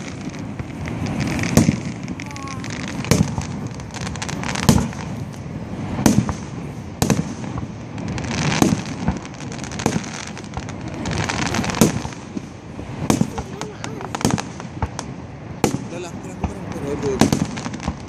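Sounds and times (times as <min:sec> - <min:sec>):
firework bangs: 0:00.0 - 0:18.0
firework crackling: 0:00.0 - 0:18.0.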